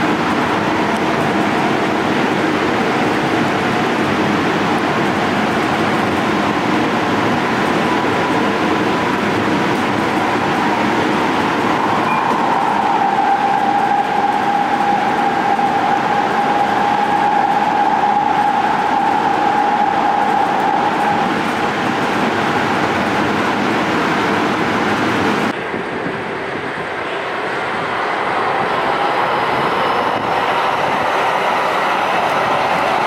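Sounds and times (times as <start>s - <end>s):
train rumble with high whine: 0.0s - 33.0s.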